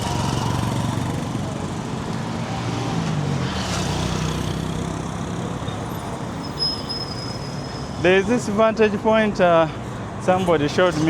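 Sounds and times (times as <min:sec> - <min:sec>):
road noise: 0:00.0 - 0:11.0
vehicle engines running: 0:00.0 - 0:11.0.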